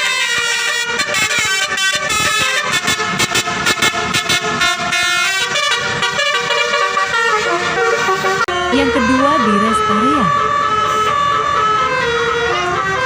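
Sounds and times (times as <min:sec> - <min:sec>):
multi-tone bus air horns tune: 0:00.0 - 0:13.0.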